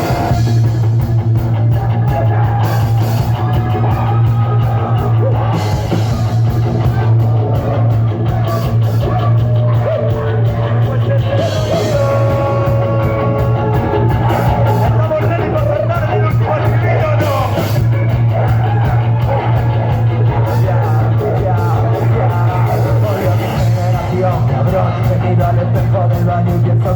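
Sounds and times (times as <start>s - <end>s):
wavering lead melody: 0.0s - 2.0s, 2.6s - 24.0s
drum kit: 0.0s - 26.9s
loud held bass: 0.0s - 26.9s.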